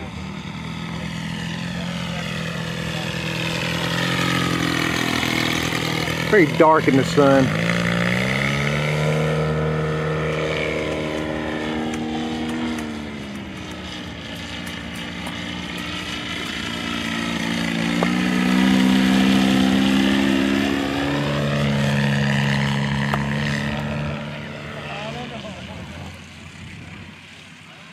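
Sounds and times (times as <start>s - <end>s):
model plane engine in flight: 0.0s - 27.9s.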